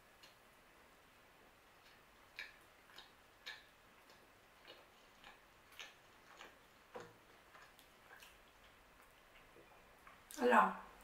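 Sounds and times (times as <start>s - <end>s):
person chewing with mouth closed: 0.0s - 10.4s.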